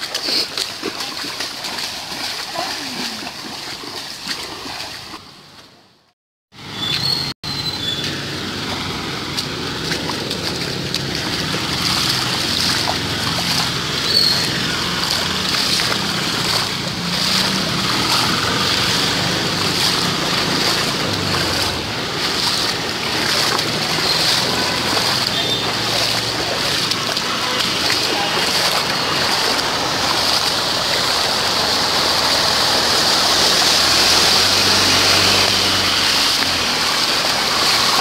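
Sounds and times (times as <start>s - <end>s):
heavy rain and floodwater: 0.0s - 6.0s, 6.6s - 38.0s.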